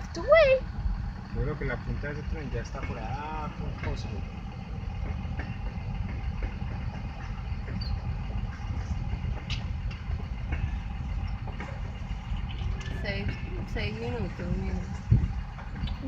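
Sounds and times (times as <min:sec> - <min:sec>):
freight train cars rumbling past: 0:00.0 - 0:16.0.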